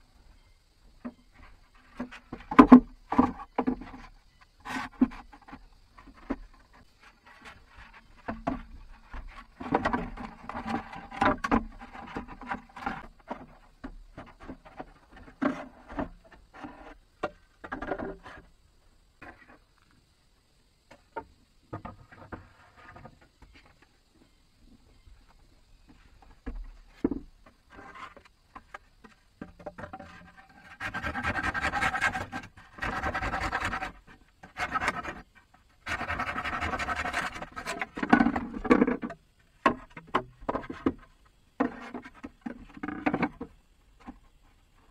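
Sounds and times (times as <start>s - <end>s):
wooden knocks and clattering: 1.0s - 18.5s, 20.9s - 23.9s, 25.9s - 35.2s, 35.9s - 44.3s.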